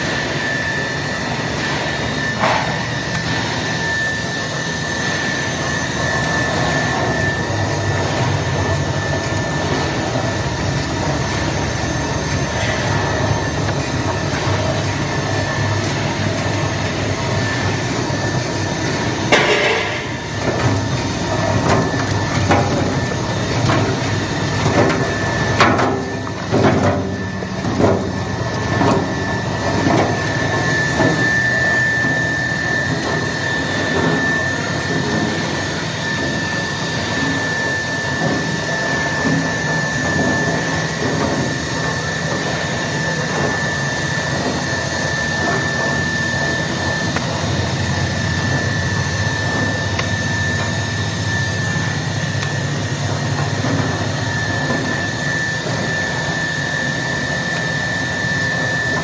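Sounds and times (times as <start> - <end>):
deboning machine running: 0.0 - 59.0
high-pitched whine: 0.0 - 59.0.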